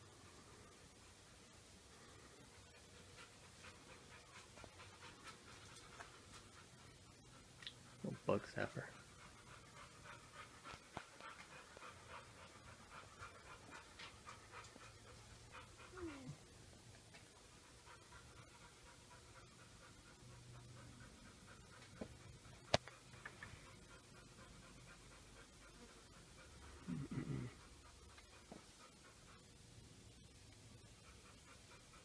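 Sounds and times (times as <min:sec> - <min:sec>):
dog panting: 0:00.1 - 0:32.0.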